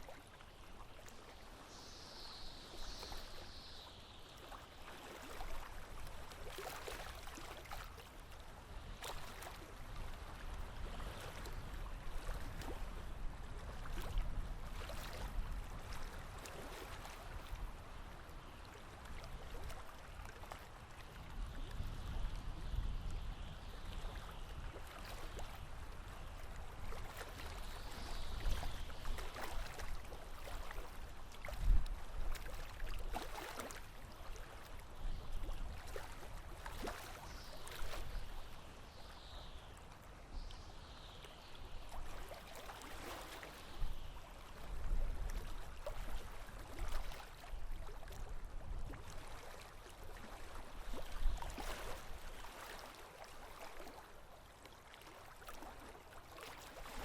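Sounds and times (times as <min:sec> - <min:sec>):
water lapping against a hull: 0:00.0 - 0:57.0.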